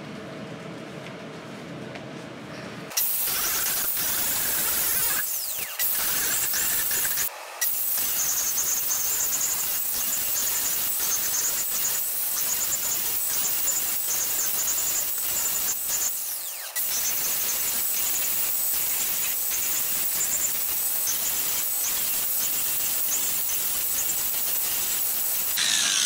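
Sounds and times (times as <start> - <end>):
angle grinder grinding metal: 2.9 - 26.0.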